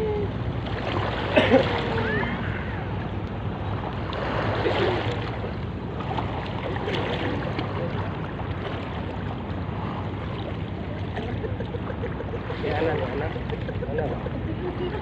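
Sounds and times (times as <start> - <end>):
low rumble: 0.0 - 15.0
seawater lapping and sloshing: 0.0 - 15.0
small water splashes: 0.1 - 14.4.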